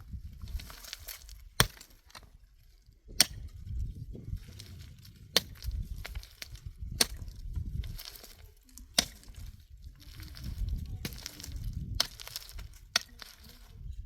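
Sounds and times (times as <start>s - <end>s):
low rustling and rumbling: 0.0s - 14.0s.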